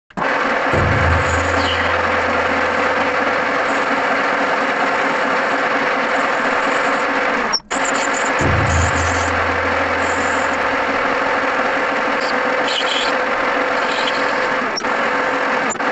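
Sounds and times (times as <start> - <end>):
metal lathe running: 0.1 - 15.9.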